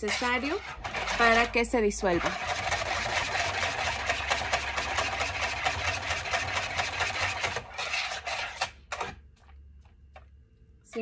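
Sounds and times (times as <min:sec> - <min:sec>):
whisk scraping a plastic bowl: 0:00.0 - 0:09.2.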